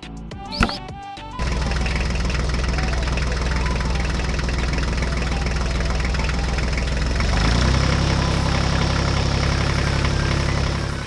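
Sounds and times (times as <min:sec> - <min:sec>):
walking tractor engine chugging: 0:01.4 - 0:11.0.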